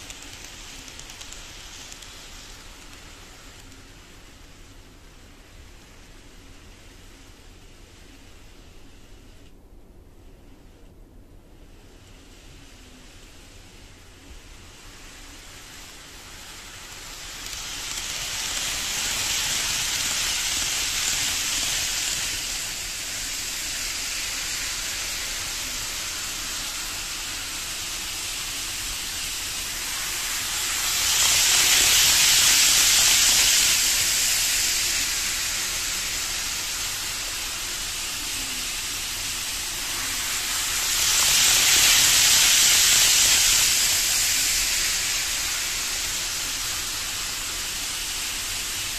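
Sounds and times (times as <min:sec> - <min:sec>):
model train running on track: 0:00.0 - 0:09.5, 0:11.5 - 0:48.9.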